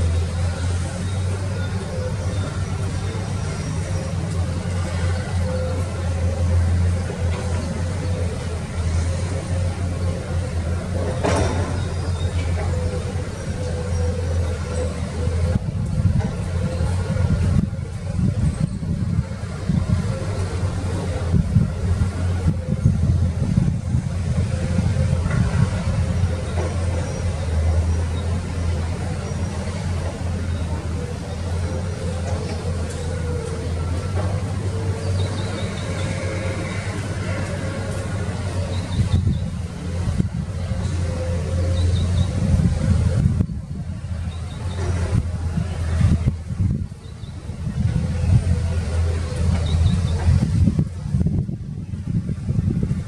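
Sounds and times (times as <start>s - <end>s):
excavator diesel engines droning: 0.0s - 53.0s.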